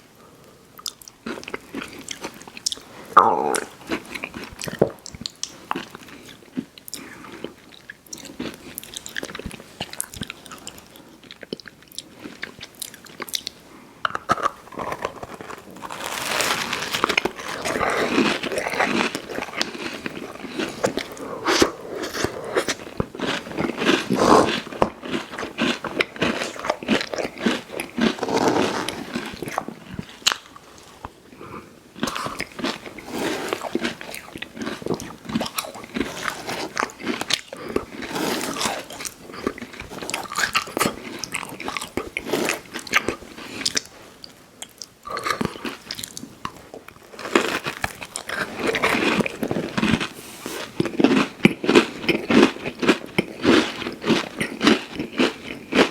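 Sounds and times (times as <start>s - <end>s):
person chewing crunchy food: 0.7s - 55.9s.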